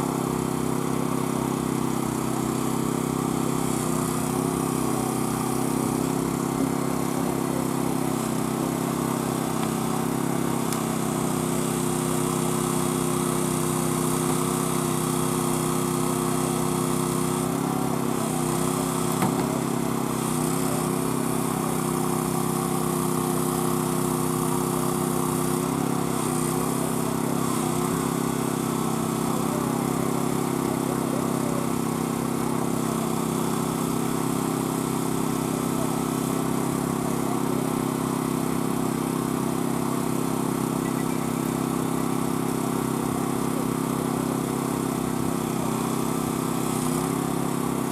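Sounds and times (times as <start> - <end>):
small gasoline engine running: 0.0 - 47.9.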